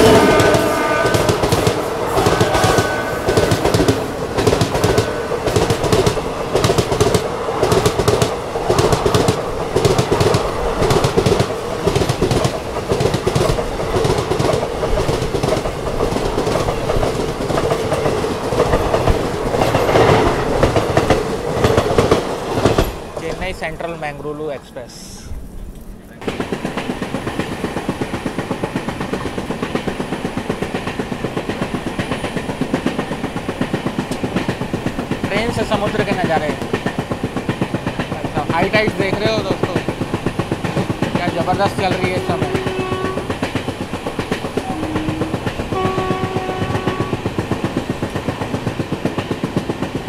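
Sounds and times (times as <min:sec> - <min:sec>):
train wheels clattering over rails: 0:00.0 - 0:24.7, 0:26.2 - 0:50.0
train hum: 0:00.0 - 0:50.0.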